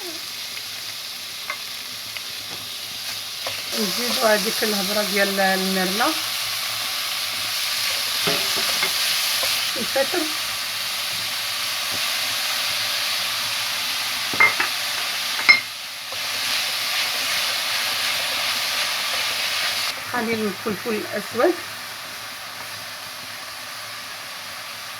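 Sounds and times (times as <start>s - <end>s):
butter sizzling in a pan: 0.0s - 24.9s.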